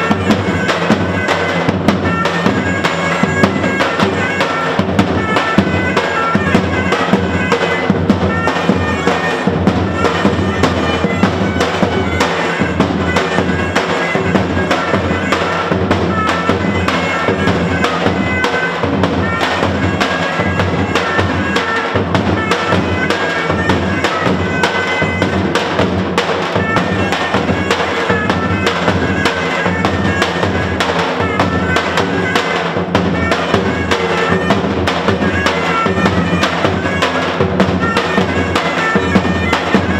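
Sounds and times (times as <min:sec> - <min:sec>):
fast drum beat: 0:00.0 - 0:39.9
wind instrument melody: 0:00.0 - 0:39.9.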